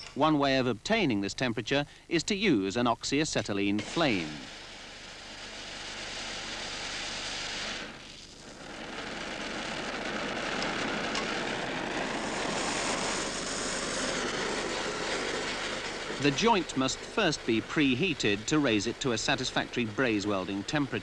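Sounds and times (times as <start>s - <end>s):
welding torch flame hissing: 3.4s - 21.0s.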